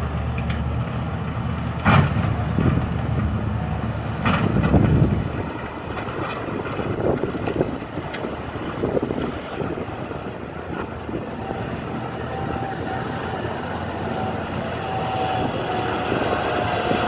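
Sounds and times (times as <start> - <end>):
wheel loader diesel engine: 0.0 - 17.0.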